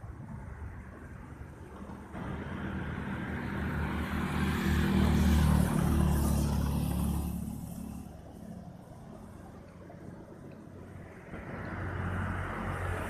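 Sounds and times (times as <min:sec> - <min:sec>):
vehicle passing by: 0:01.6 - 0:10.2, 0:10.8 - 0:13.0.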